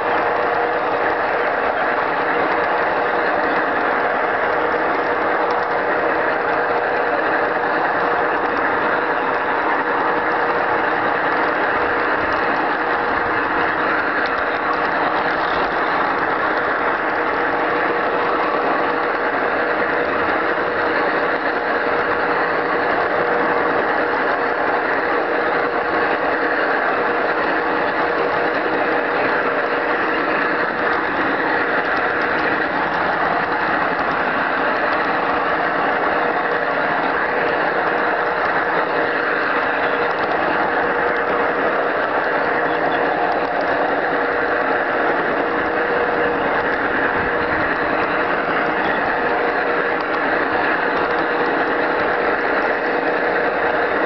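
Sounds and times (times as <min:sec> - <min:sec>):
model train whirring on track: 0:00.0 - 0:54.0.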